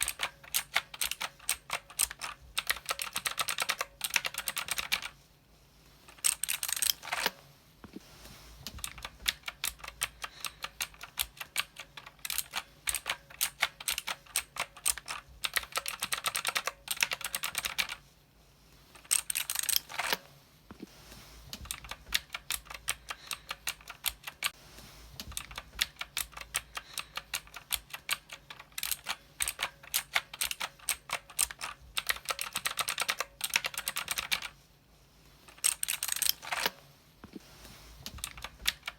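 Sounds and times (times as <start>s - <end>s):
mechanical keyboard typing: 0.0s - 5.2s, 6.1s - 7.4s, 8.7s - 18.0s, 19.0s - 20.2s, 21.6s - 24.6s, 25.2s - 34.6s, 35.5s - 36.8s, 38.1s - 38.9s.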